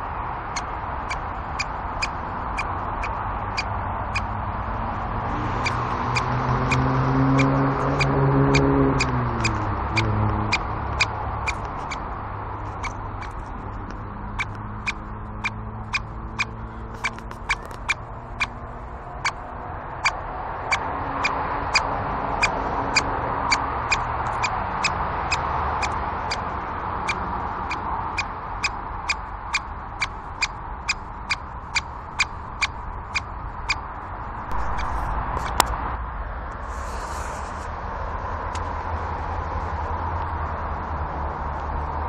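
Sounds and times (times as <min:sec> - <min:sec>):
woodpecker sharp kik calls: 0:00.0 - 0:04.4, 0:05.6 - 0:35.6.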